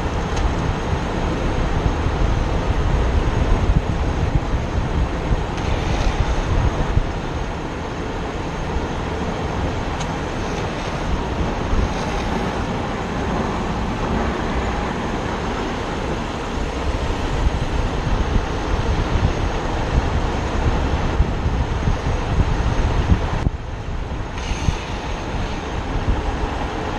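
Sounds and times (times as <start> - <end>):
skateboard wheels rolling on asphalt: 0.0 - 26.9
wind buffeting microphone: 0.0 - 26.9.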